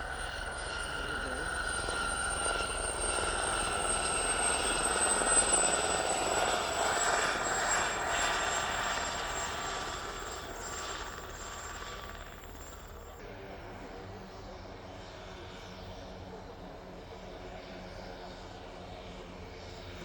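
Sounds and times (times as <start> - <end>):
turbine aircraft passing: 0.0 - 20.0.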